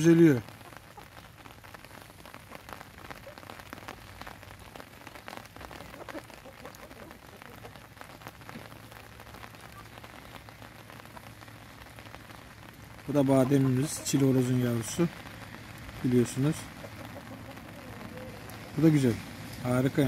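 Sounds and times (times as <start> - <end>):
light rain falling: 0.0 - 20.0.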